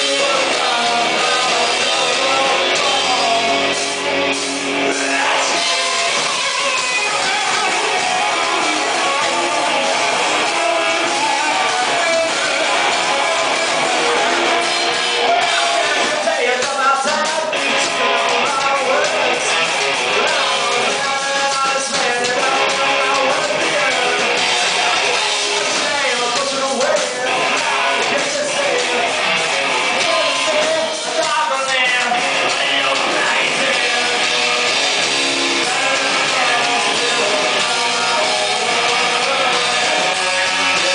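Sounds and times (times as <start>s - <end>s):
person singing: 0.0s - 4.1s, 4.9s - 40.9s
drums: 0.0s - 40.9s
electric guitars: 0.0s - 40.9s.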